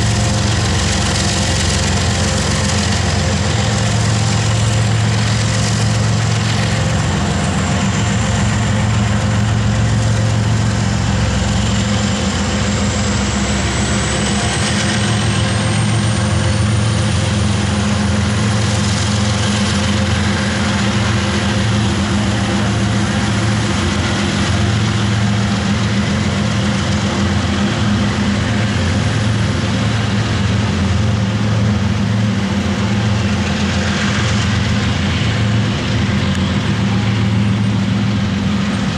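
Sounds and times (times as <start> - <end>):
diesel locomotive drone: 0.0 - 38.9
freight cars rolling on rails: 0.0 - 38.9.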